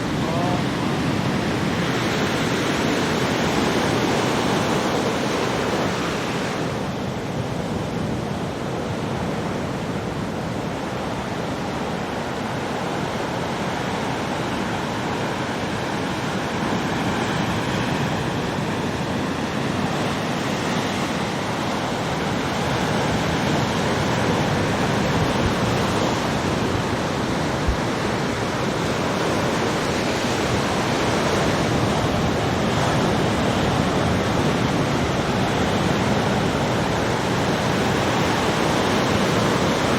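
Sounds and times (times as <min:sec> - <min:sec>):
ocean waves breaking: 0:00.0 - 0:39.9
wind: 0:00.0 - 0:39.9.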